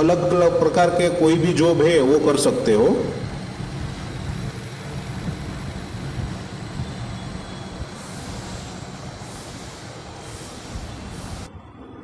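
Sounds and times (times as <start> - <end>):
machine motor humming: 1.3 - 11.5.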